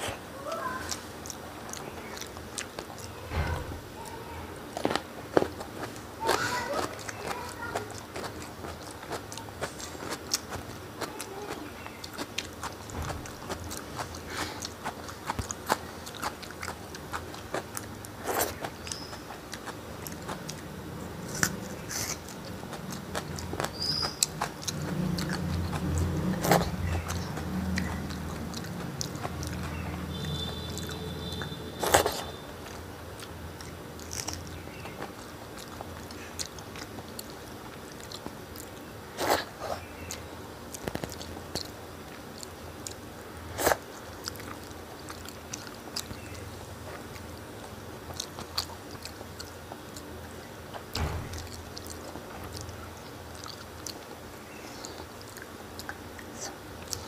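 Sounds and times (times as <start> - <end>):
close-up chewing and biting: 0.0 - 57.0
low background hum: 0.0 - 57.0.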